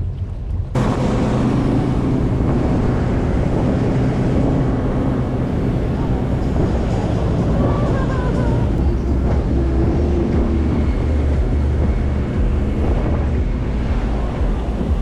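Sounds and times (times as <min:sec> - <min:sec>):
motorboat engine rumbling: 0:00.0 - 0:15.0
wind buffeting microphone: 0:00.0 - 0:15.0.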